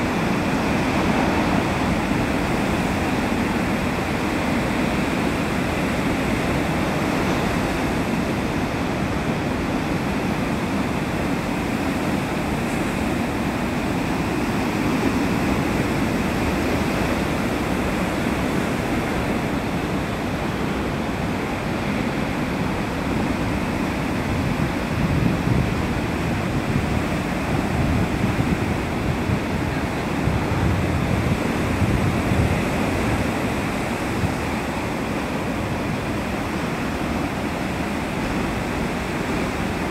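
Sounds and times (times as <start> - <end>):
surf breaking on beach: 0.0 - 39.9
wind buffeting microphone: 0.0 - 39.9.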